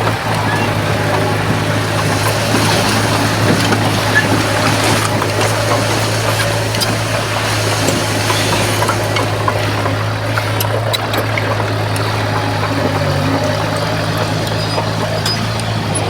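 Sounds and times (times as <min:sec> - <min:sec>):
bulldozer diesel engine droning: 0:00.0 - 0:16.0
light clicks and clanks: 0:00.0 - 0:16.0.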